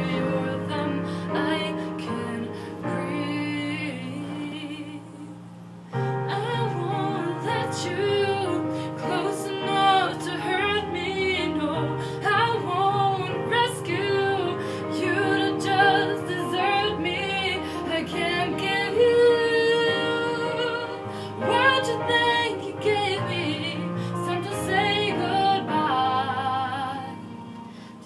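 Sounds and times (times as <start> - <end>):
woman singing pop song: 0.0 - 5.3, 6.3 - 27.2.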